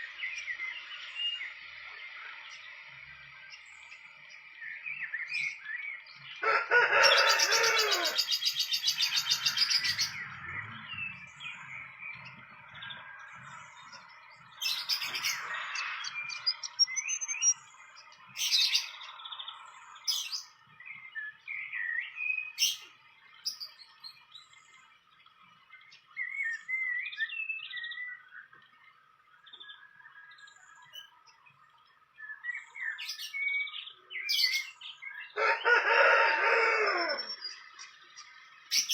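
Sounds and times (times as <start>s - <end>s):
wild birds chirping: 0.0s - 38.9s.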